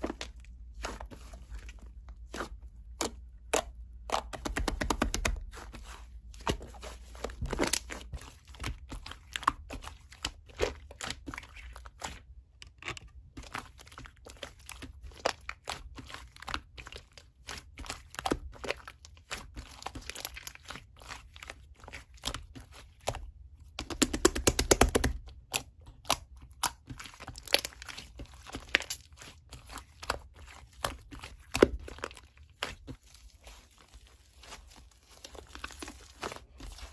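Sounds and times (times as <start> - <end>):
slime being squished: 0.0 - 36.9.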